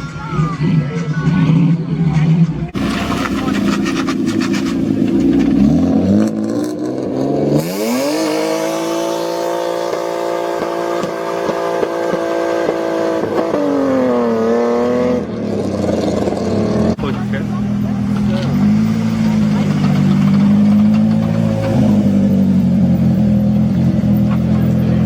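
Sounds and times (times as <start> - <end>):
car engine revving hard: 2.8 - 25.0.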